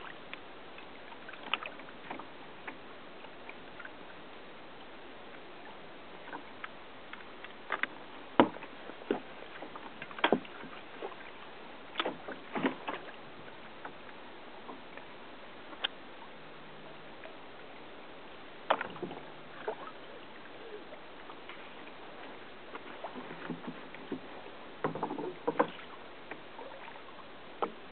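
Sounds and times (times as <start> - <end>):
water splashing against kayak hull: 0.0 - 16.2, 18.5 - 27.9.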